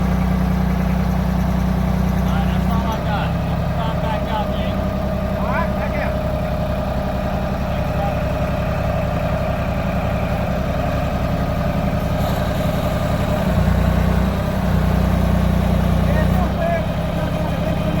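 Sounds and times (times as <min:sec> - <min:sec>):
pickup truck engine idling: 0:00.0 - 0:18.0.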